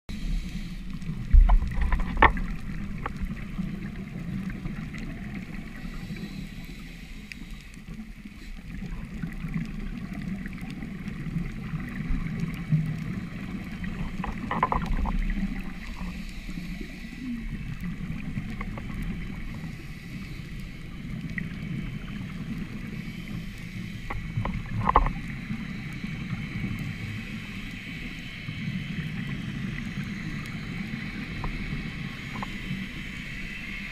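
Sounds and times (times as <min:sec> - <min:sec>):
faint hiss: 0:00.1 - 0:01.4, 0:02.4 - 0:14.2, 0:15.2 - 0:33.9
muffled underwater rumble: 0:00.1 - 0:33.9.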